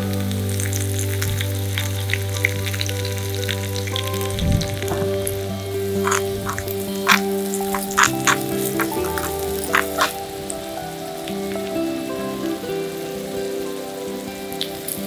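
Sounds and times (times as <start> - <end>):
background music: 0.0 - 15.0
hot oil sizzling and crackling: 0.0 - 15.0.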